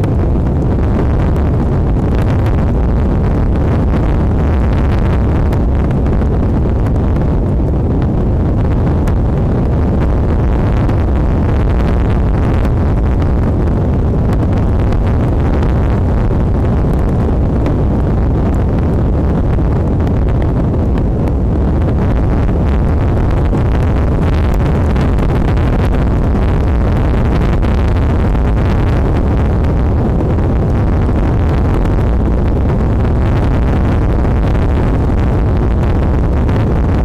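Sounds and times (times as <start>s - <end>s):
strong wind buffeting microphone: 0.0s - 37.0s.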